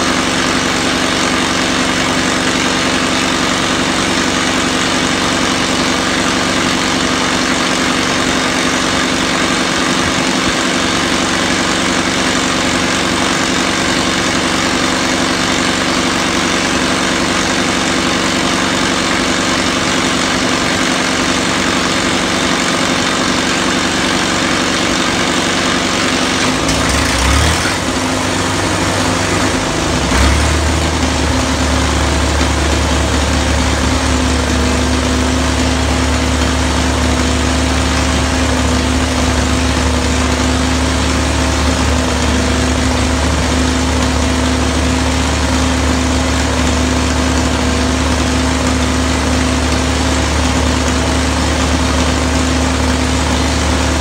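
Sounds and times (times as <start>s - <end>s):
crawler tractor engine running: 0.0s - 54.0s.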